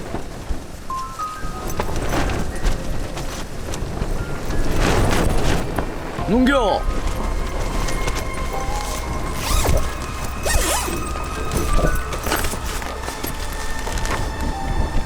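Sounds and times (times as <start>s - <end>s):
tent fabric flapping: 0.0s - 15.0s
wind rumbling on microphone: 0.0s - 15.0s.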